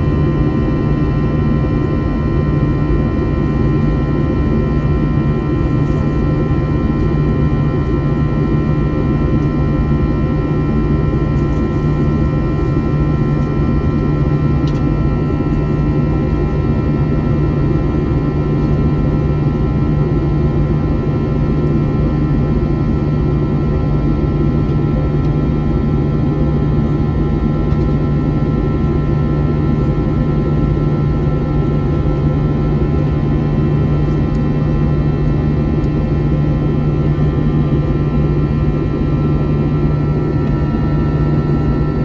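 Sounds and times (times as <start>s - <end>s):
jet engines heard from cabin: 0.0s - 42.0s.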